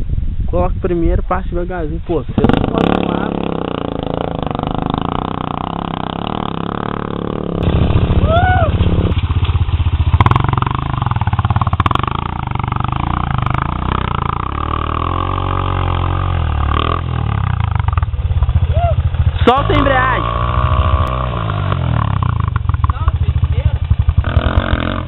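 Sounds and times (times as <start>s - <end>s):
dirt bike engine labouring: 2.2s - 25.0s.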